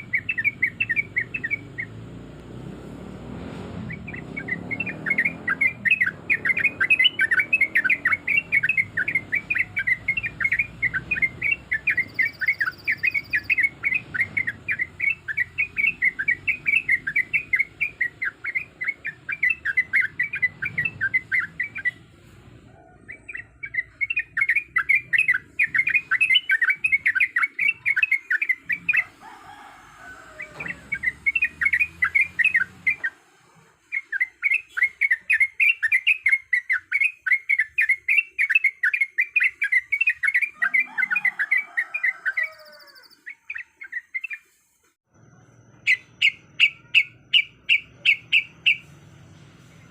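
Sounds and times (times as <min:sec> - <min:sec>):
bird singing chattering notes: 0:00.0 - 0:02.2, 0:03.8 - 0:22.1, 0:23.1 - 0:29.1, 0:30.4 - 0:33.2, 0:33.9 - 0:44.5, 0:45.3 - 0:49.9.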